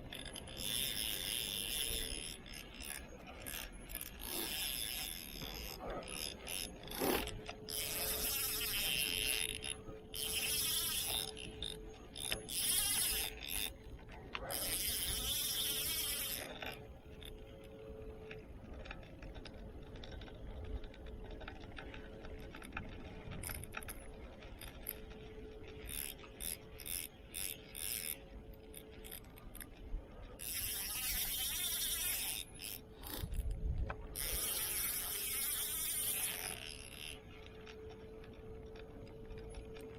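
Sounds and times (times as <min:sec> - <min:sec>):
fishing reel winding: 0:00.0 - 0:39.9
reel drag ratcheting: 0:00.0 - 0:39.9.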